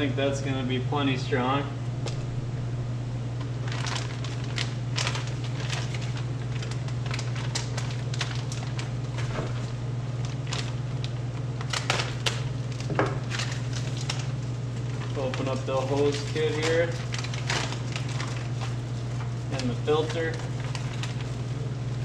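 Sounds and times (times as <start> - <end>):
steady low hum: 0.0 - 22.0
packaging crinkling and rustling: 3.4 - 22.0.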